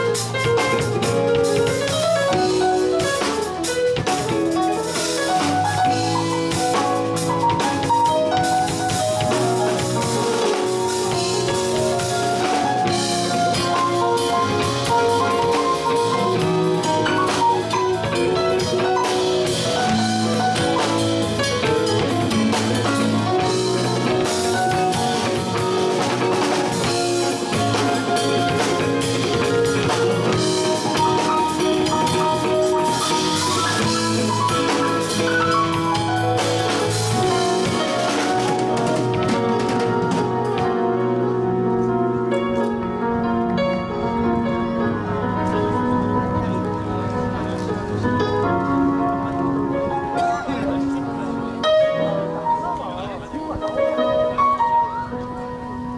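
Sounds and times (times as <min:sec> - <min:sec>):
drum kit: 0:00.0 - 0:55.9
electric guitar: 0:00.0 - 0:55.9
synthesizer keyboard: 0:00.0 - 0:55.9.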